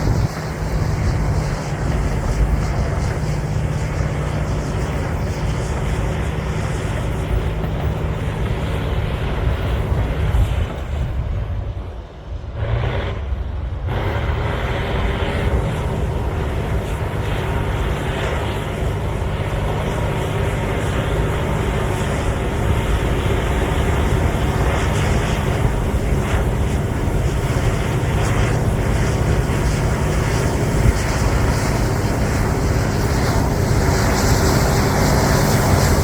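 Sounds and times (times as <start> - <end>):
bulldozer diesel engine rumbling: 0.0 - 36.0.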